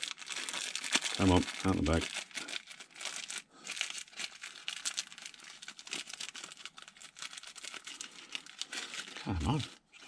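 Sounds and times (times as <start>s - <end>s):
plastic packet crinkling: 0.0s - 10.0s.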